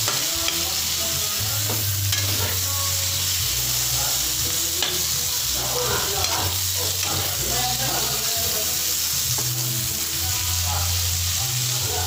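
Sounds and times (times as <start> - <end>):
onions sizzling in a wok: 0.0 - 12.0.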